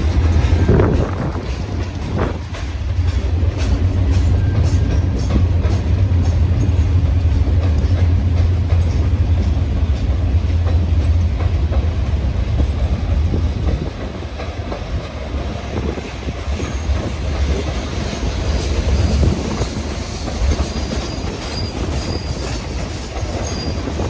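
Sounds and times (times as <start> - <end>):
freight train rumbling: 0.0 - 24.0.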